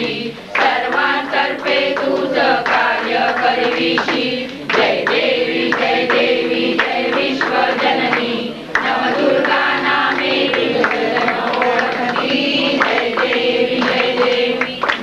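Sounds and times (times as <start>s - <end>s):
congregation singing a hymn: 0.0s - 15.0s
hand claps: 0.0s - 15.0s.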